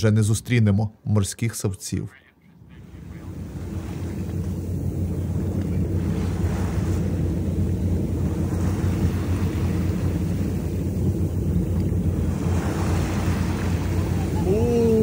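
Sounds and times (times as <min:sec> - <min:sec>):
steady low hum: 0:02.0 - 0:15.0
wind buffeting microphone: 0:02.6 - 0:15.0
waves slapping against boat hull: 0:02.7 - 0:15.0.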